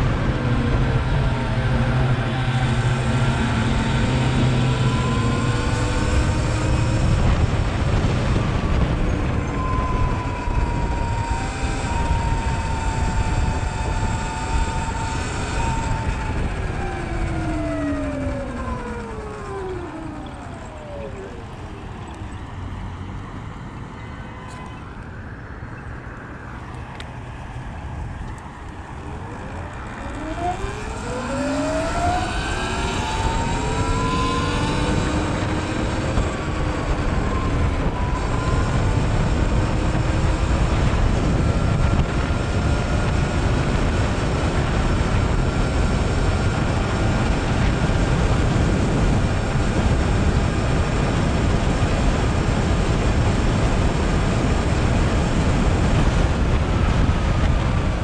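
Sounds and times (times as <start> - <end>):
wind rush: 0.0 - 58.0
electric motor whining: 0.1 - 23.2, 27.8 - 52.2.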